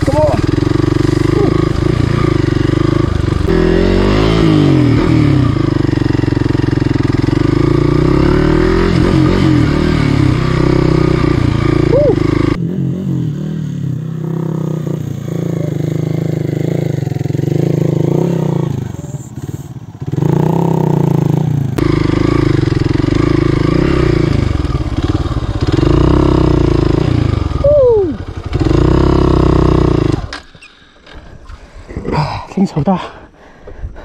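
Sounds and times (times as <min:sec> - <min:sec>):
motorcycle engine revving: 0:00.0 - 0:31.7.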